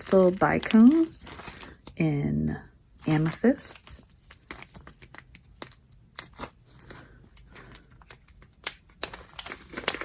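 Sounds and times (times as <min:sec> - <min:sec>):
plastic packaging crinkling: 0:00.0 - 0:02.0, 0:03.0 - 0:10.0.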